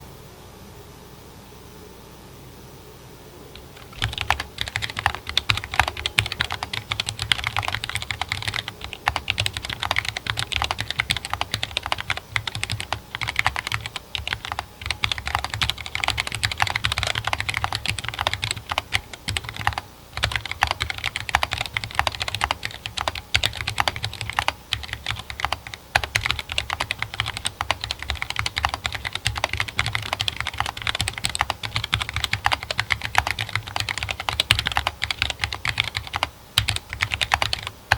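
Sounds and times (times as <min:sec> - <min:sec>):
fast typing on mechanical keyboard: 0:03.6 - 0:37.9.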